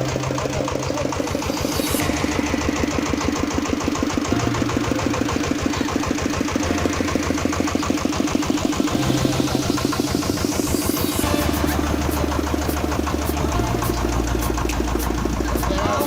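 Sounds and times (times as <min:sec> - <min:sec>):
small engine chugging: 0:00.0 - 0:16.0.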